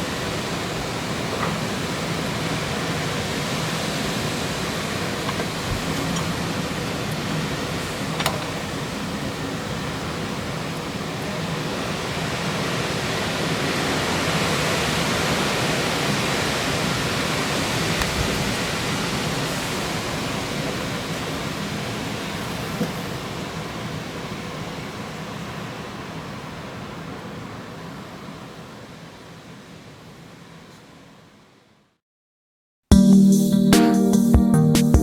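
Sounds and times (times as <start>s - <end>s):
strong wind gusting: 0.0s - 30.2s.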